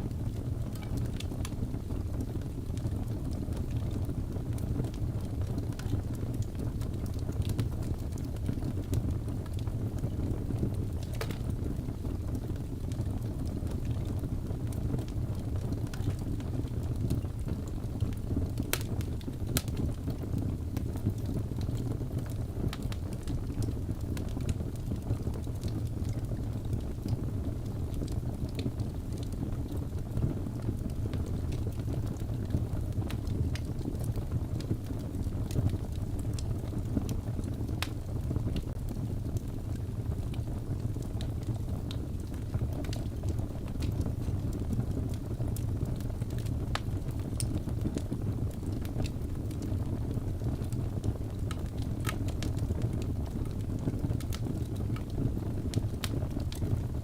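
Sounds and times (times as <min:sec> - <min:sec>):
fire rumbling: 0:00.0 - 0:57.0
logs crackling and popping: 0:00.0 - 0:57.0.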